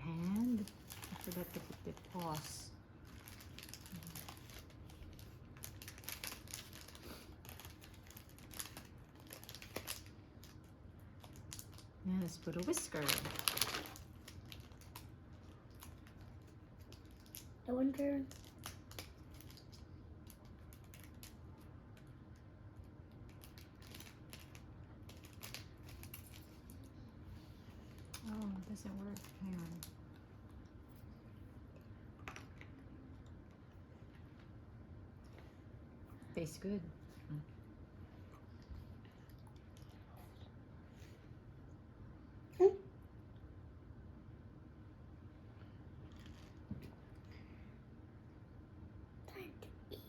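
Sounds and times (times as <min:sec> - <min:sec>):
low room hum: 0:00.0 - 0:50.0.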